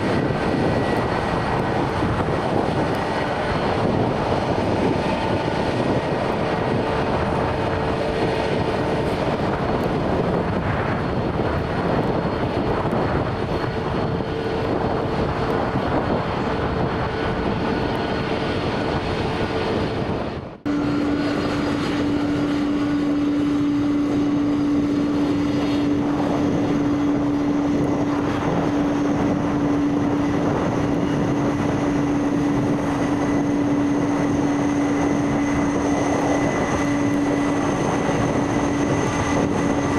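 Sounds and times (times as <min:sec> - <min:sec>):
held hum: 0:00.0 - 0:39.9
jet engines running: 0:00.0 - 0:39.9.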